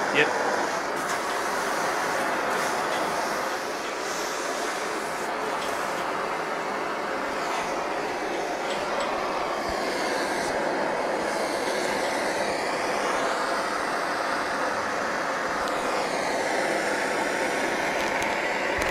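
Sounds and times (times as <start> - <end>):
steady rushing noise: 0.0 - 18.9.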